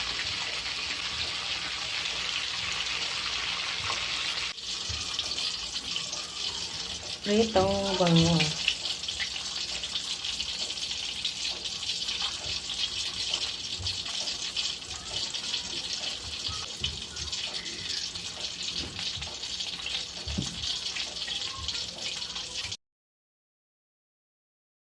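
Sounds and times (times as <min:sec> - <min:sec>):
oil popping and crackling: 0:00.0 - 0:22.7
fish sizzling in hot oil: 0:00.0 - 0:22.8.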